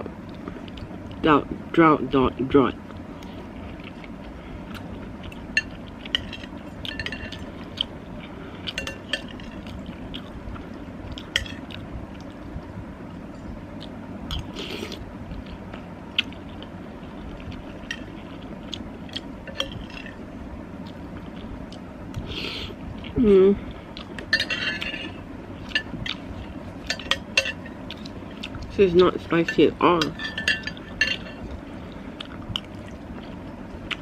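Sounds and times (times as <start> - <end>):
low background noise: 0.0 - 34.0.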